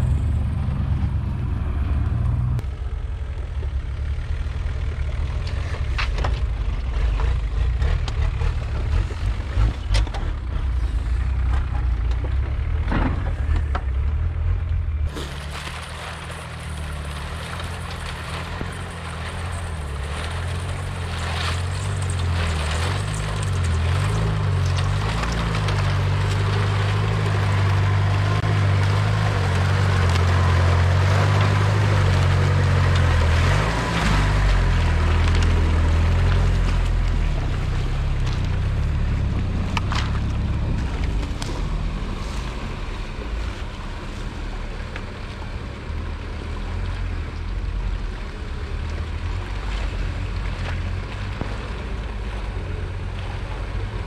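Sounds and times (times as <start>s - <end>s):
engine revving under load: 0.0s - 47.4s
tyres rushing through snow: 0.0s - 54.0s.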